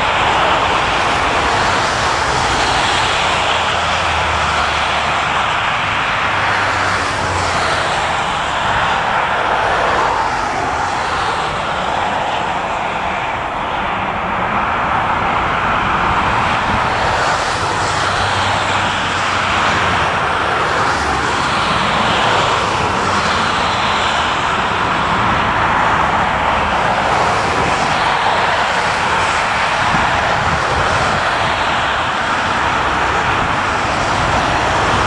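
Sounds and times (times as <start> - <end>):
jet airliner engines running: 0.0 - 35.0.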